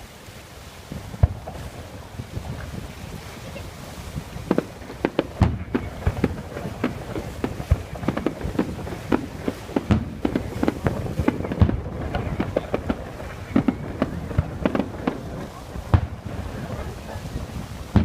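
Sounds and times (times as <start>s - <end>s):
heavy firework boom: 0.9s - 18.0s
sharp firework bangs and cracks: 0.9s - 18.0s.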